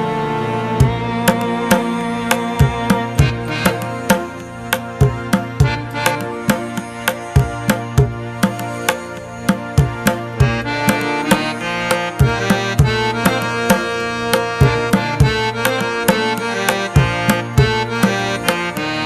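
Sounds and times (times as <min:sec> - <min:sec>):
melodic instrumental music: 0:00.7 - 0:19.0
hand drum beat: 0:00.8 - 0:18.6.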